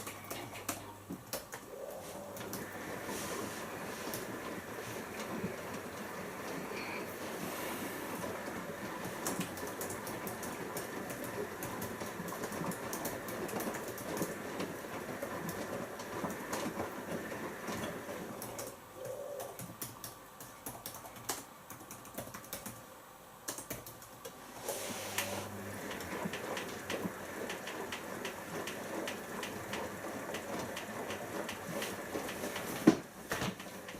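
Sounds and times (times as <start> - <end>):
washing machine motor hum: 0.0 - 33.9.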